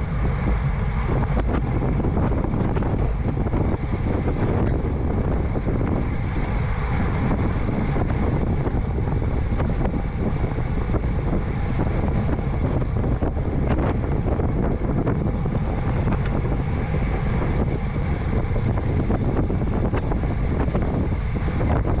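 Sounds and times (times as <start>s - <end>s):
road noise: 0.0s - 22.0s
wind buffeting microphone: 0.0s - 22.0s.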